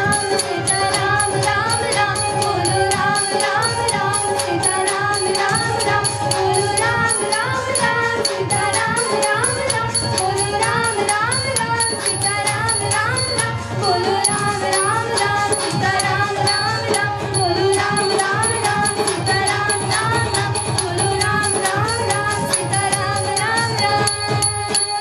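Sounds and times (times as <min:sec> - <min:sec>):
fast steady percussion: 0:00.0 - 0:25.0.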